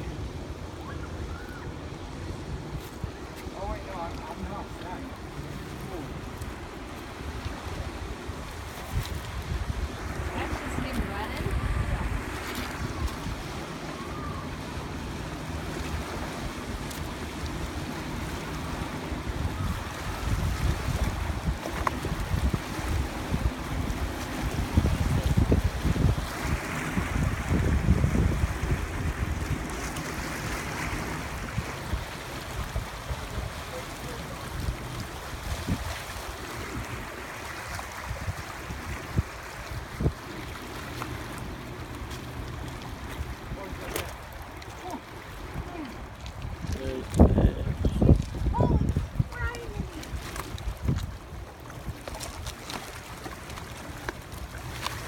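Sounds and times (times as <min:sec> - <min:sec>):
river water flowing: 0:00.0 - 0:55.0
wind rumbling on microphone: 0:00.0 - 0:55.0.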